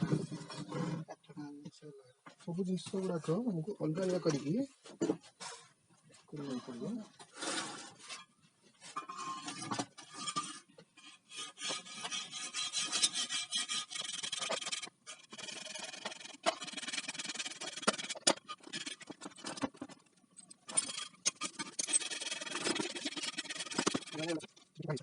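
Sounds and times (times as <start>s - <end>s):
tools scraping and rubbing: 0.0s - 1.2s, 4.0s - 5.8s, 6.4s - 25.0s.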